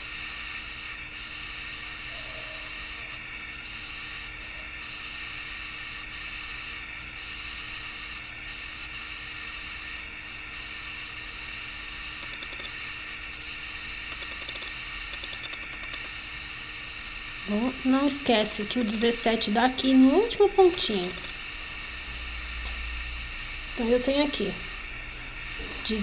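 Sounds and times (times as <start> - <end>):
faint hum: 0.0 - 26.0
steady background hiss: 0.0 - 26.0.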